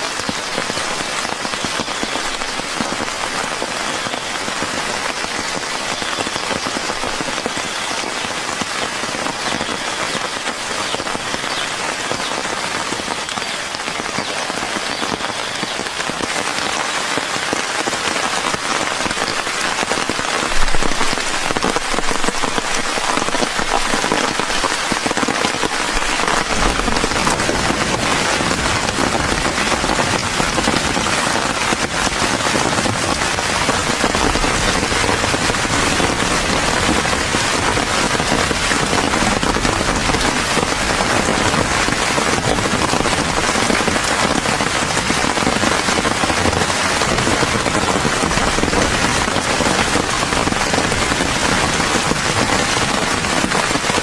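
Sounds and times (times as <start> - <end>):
steady rain on a surface: 0.0 - 54.0.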